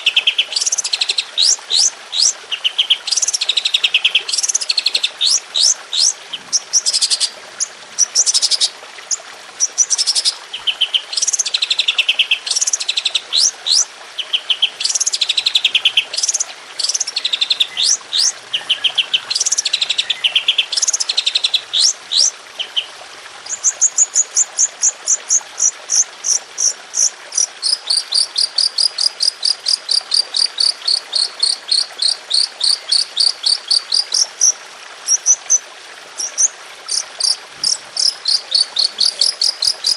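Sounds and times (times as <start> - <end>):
songbird chirps and trills: 0.0 - 35.6, 36.2 - 39.9.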